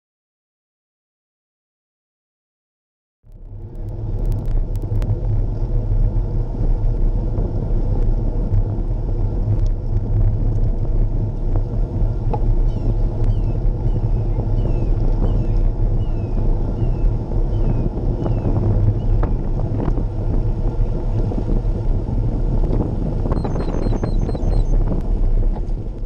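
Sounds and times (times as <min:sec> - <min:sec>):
wind rumbling on microphone: 0:03.3 - 0:26.0.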